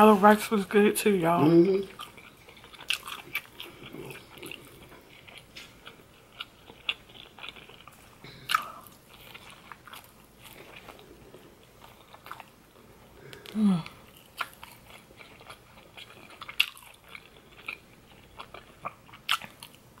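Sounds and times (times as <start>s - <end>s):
person chewing and biting: 2.0s - 20.0s.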